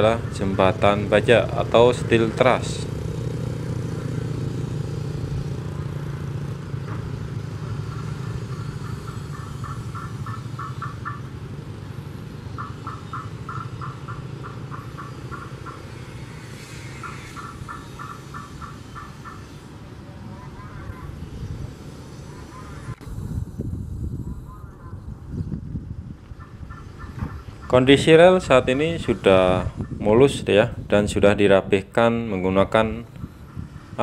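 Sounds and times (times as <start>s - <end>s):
motor vehicle engine humming: 0.0s - 34.0s.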